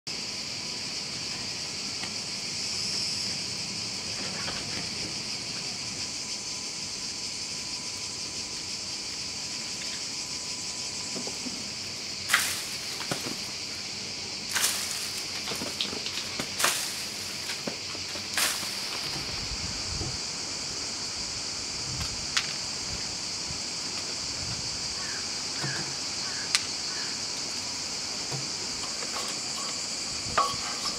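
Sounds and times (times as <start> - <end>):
cicadas buzzing: 0.1 - 30.9.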